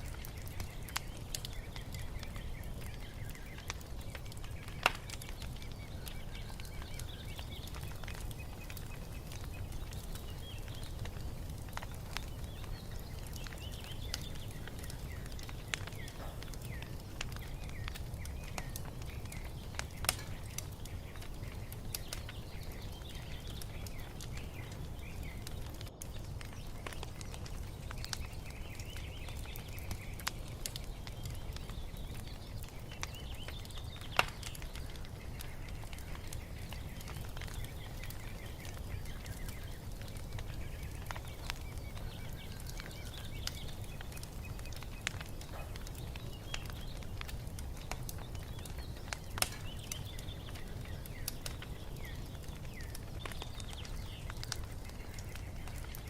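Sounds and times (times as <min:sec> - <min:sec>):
songbirds chirping: 0:00.0 - 0:56.0
wood fire crackling and popping: 0:00.0 - 0:56.0.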